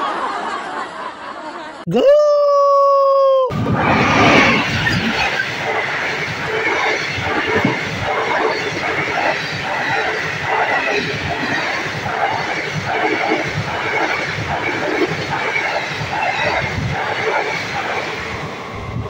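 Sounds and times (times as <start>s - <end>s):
train wheels rumbling on rails: 3.5s - 19.0s.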